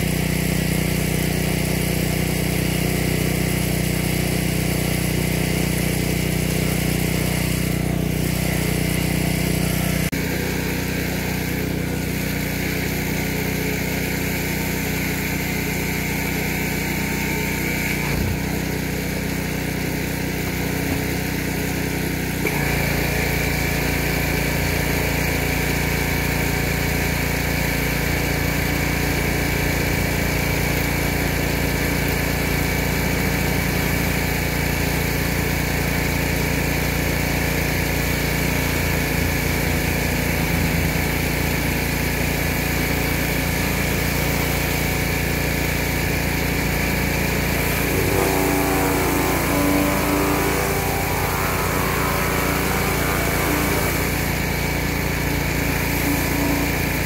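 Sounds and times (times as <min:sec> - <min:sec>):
pressure washer engine running: 0:00.0 - 0:57.0.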